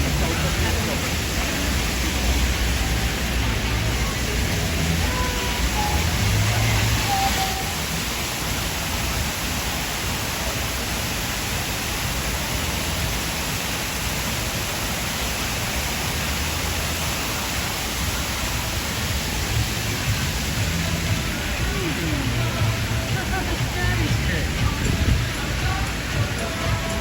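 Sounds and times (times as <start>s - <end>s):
city traffic din: 0.0s - 27.0s.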